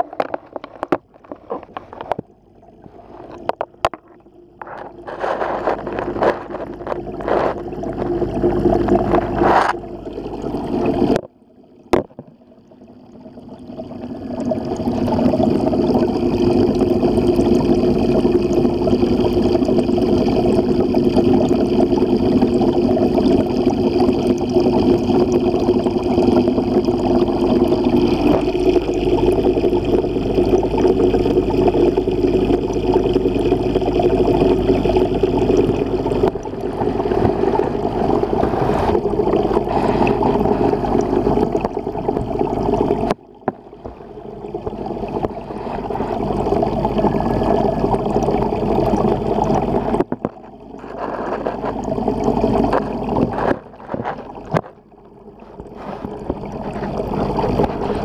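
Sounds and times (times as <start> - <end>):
aquarium water gurgling: 0.0 - 58.0
tank filter hum: 0.0 - 58.0.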